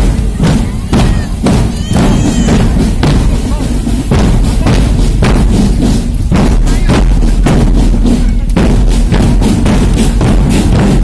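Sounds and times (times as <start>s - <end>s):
bass drum and snare beat: 0.0s - 11.0s.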